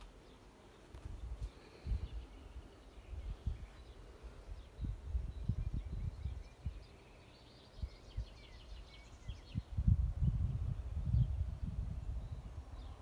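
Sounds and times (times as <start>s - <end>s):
bird chirping: 0.0s - 13.0s
wind buffeting microphone: 0.9s - 7.0s, 7.7s - 13.0s.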